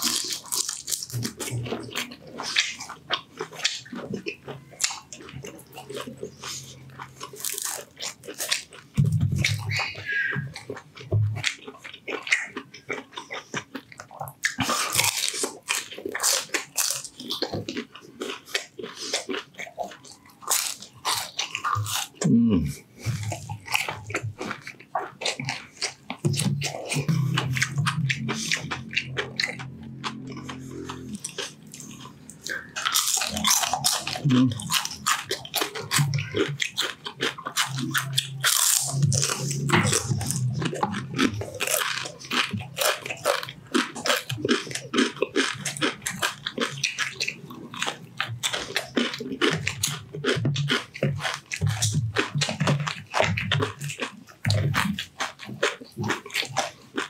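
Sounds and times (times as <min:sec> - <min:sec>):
chewing: 0:00.0 - 0:57.0
crunching of crispy fried food: 0:00.0 - 0:57.0.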